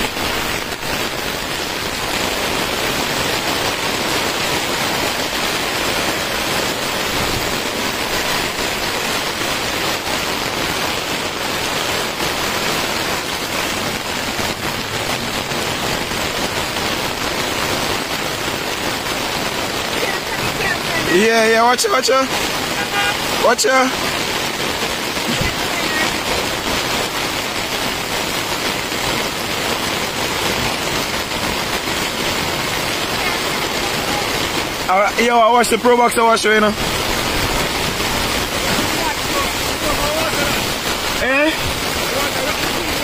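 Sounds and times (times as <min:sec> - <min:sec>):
heavy rain on flooded street: 0:00.0 - 0:43.0.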